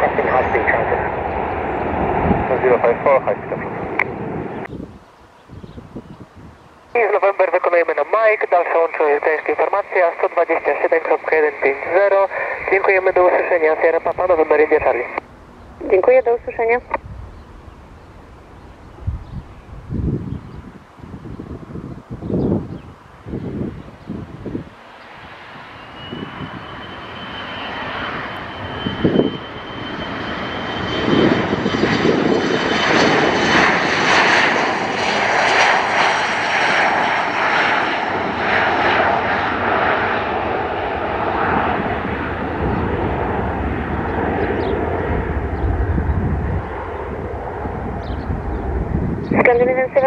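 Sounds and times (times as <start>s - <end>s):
jet airliner passing: 0.0s - 50.0s.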